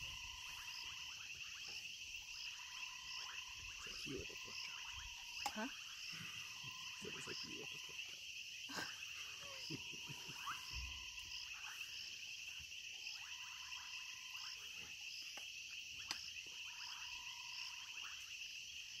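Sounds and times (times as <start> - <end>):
frog calling: 0.0 - 19.0
high-pitched insect trilling: 0.0 - 19.0.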